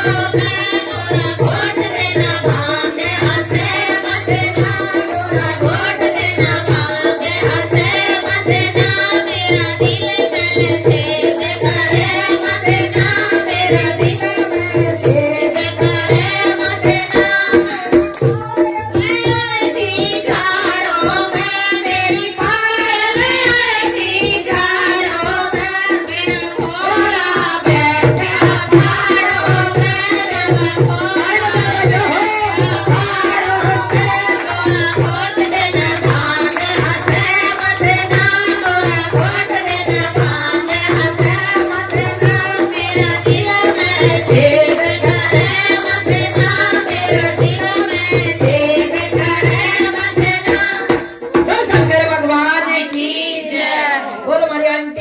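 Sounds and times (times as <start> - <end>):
dholak drum beat: 0.0 - 55.0
woman singing devotional song: 0.0 - 55.0.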